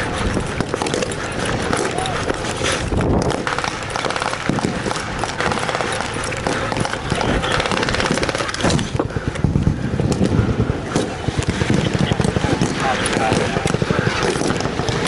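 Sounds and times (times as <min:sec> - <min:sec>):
machine-gun fire: 0:00.0 - 0:09.0, 0:10.8 - 0:15.0
rifle shots: 0:00.1 - 0:09.0, 0:10.8 - 0:15.0.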